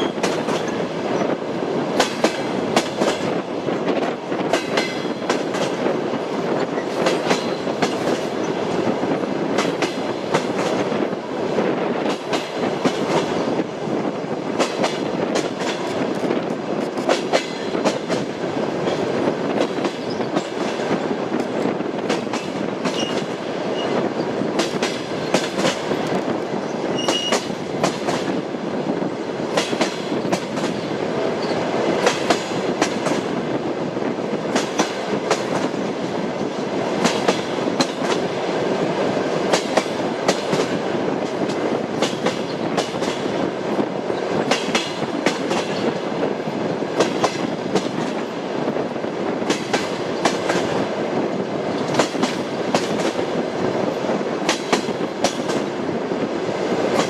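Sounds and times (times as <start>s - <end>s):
train rumble: 0.0s - 57.0s
train wheels clicking on rails: 0.0s - 57.0s.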